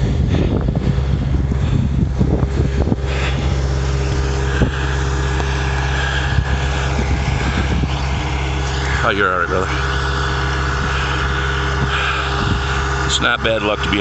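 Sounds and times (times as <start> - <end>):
faint whine: 0.0 - 14.0
truck engine running: 0.0 - 14.0.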